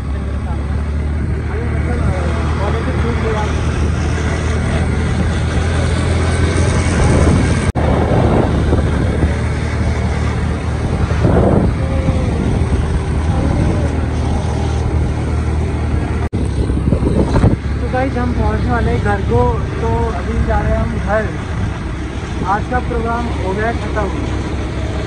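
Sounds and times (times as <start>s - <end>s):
low road rumble: 0.0s - 25.0s
wind buffeting microphone: 0.8s - 25.0s.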